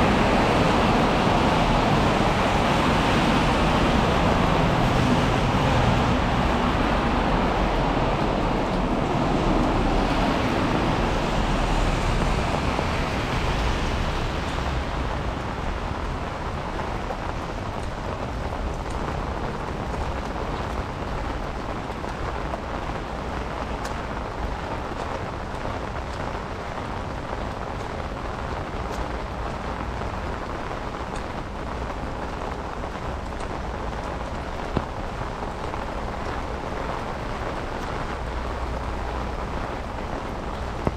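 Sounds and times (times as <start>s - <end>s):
steady rain falling: 0.0s - 40.9s
tyres hissing on wet road: 0.0s - 40.9s.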